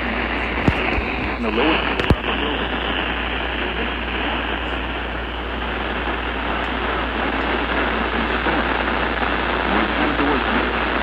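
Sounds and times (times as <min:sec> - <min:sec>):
low hum: 0:00.0 - 0:11.0
radio static hiss: 0:00.0 - 0:11.0.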